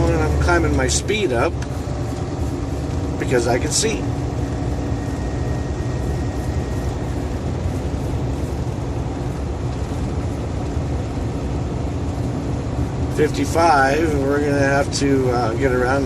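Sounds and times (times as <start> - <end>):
road noise: 0.0 - 16.0
truck diesel engine drone: 0.0 - 16.0.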